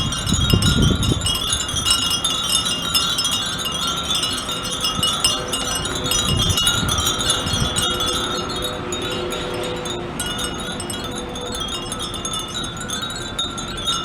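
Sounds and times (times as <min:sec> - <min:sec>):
wind chimes tinkling: 0:00.0 - 0:14.0.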